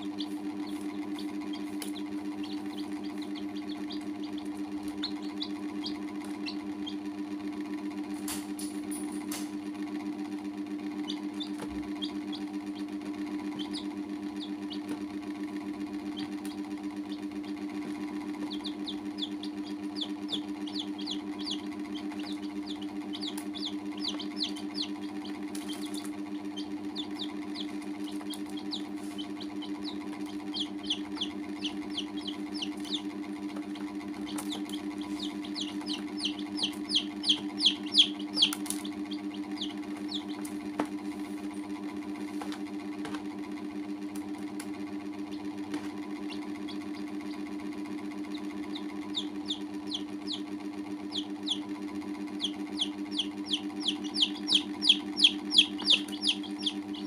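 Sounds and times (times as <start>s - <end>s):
chicks peeping: 0.0s - 43.2s, 44.2s - 57.0s
low mechanical hum: 0.0s - 57.0s.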